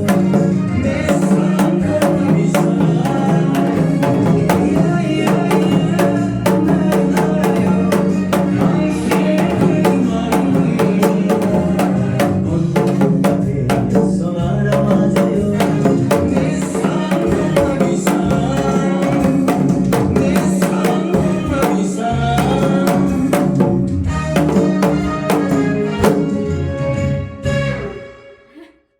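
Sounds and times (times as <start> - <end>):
hourglass drum struck fast: 0.0 - 26.4
recorded backing song: 0.0 - 28.5.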